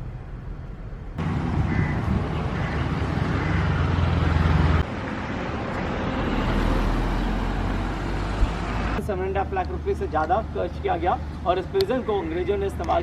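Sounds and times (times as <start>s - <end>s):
road and traffic noise: 0.0s - 13.0s
vehicle engine hum: 0.0s - 13.0s.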